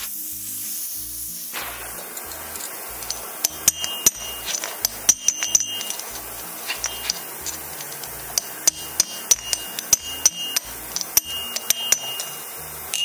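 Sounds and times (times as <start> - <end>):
hammer striking hot steel: 1.4 - 13.0.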